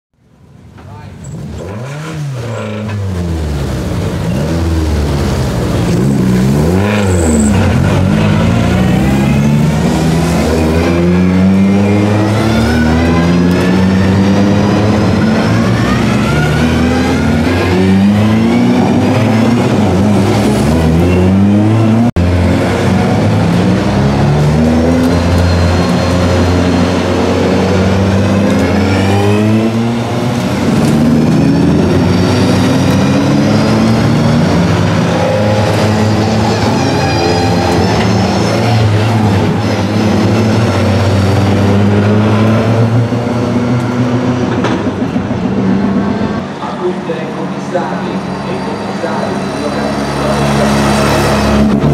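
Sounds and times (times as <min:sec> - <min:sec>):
race car engines revving: 0:00.6 - 0:51.9.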